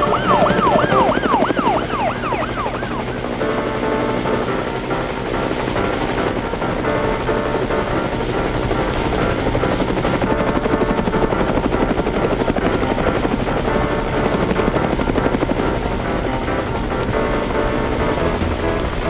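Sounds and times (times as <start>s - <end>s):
background music: 0.0s - 19.0s
cartoon helicopter rotor chop: 0.0s - 19.0s.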